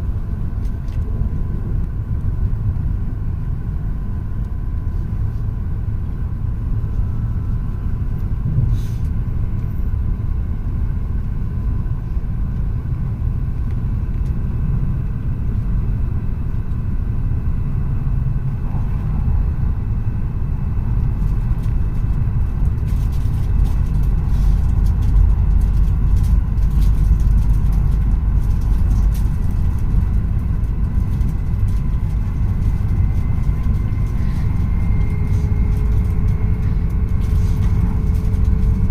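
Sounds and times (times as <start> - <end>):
train cabin rumble: 0.0 - 38.9.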